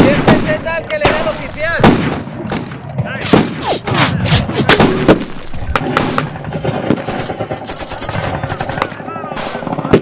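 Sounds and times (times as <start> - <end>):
blank gunshots: 0.0 - 10.0.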